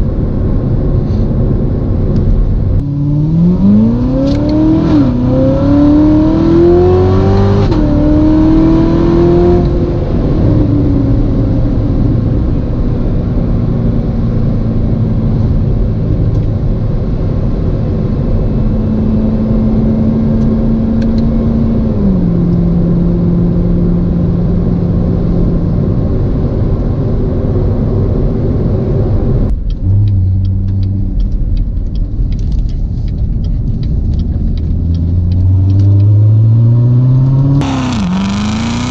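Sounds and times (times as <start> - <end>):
car engine accelerating: 1.7 - 38.9.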